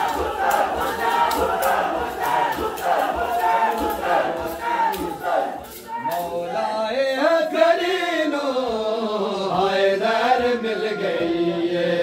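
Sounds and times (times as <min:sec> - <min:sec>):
men chanting a lament: 0:00.0 - 0:12.0.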